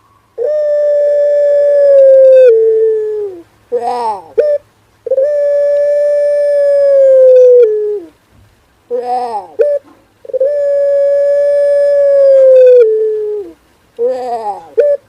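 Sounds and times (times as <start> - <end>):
dove cooing: 0.0 - 8.2, 8.9 - 15.0.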